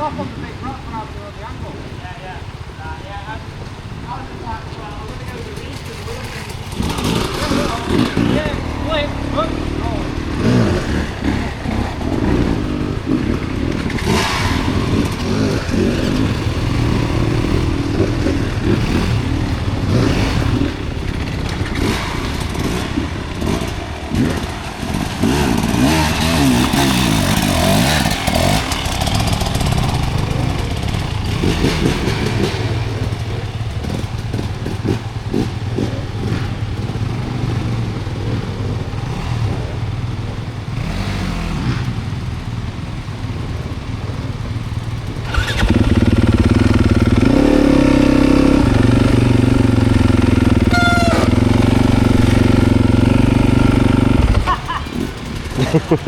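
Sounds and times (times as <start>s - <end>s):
dirt bike engine revving: 3.5s - 56.0s.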